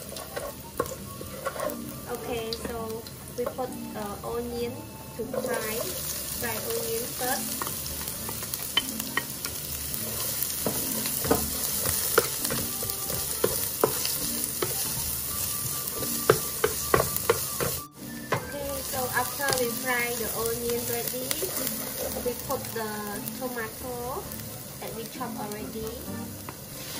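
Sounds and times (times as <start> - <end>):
wooden spatula scraping a pan: 0.0 - 3.6, 5.3 - 23.8, 26.4 - 26.9
onion and garlic sizzling in oil: 0.0 - 26.9.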